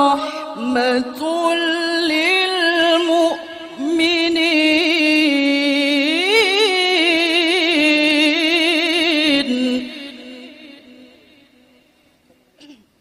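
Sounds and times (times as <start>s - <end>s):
woman reciting melodically: 0.0s - 11.6s.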